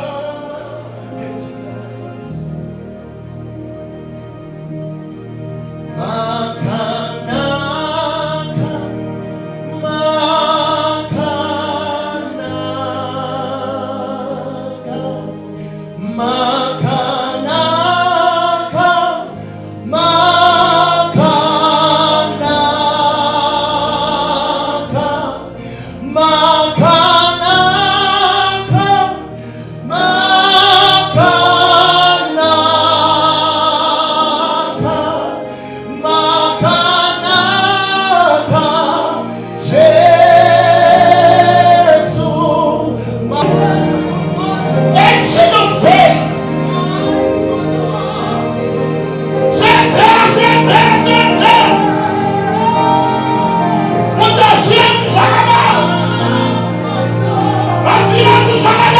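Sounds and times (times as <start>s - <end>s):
gospel singing with vibrato: 0.0s - 58.9s
sustained keyboard accompaniment: 0.0s - 58.9s.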